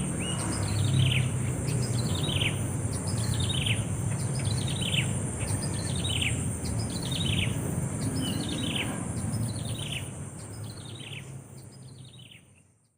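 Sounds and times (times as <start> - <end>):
bird chirping cascade: 0.0 - 12.7.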